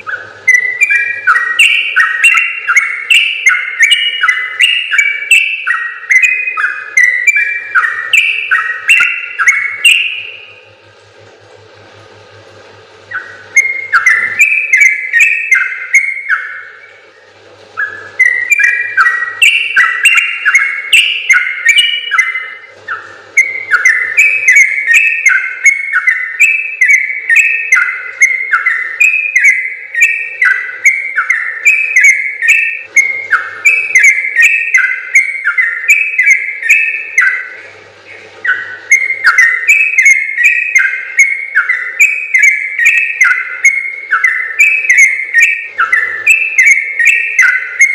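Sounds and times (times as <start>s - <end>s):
bird singing bubbling whistles: 0.0s - 10.8s, 13.0s - 47.9s.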